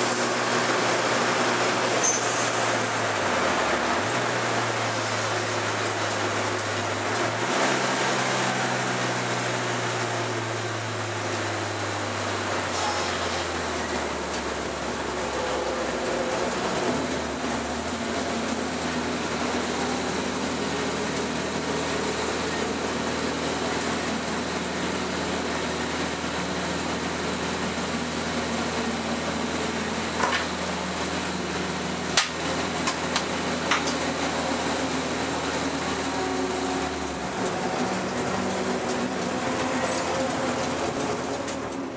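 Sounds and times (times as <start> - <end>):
race car engine at low revs: 0.0 - 41.9.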